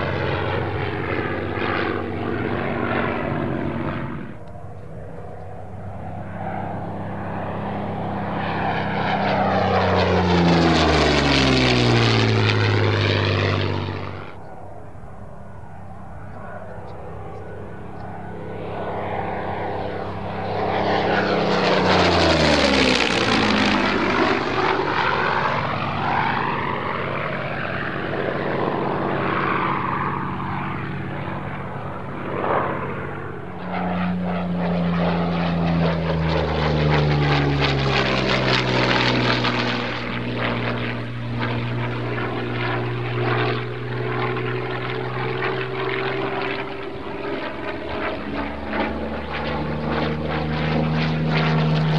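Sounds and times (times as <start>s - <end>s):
propeller plane engine passing: 0.0s - 51.9s.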